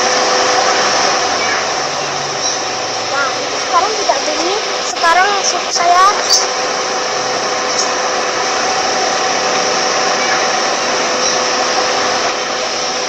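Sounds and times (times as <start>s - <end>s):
air conditioning fan rushing air: 0.0s - 13.0s.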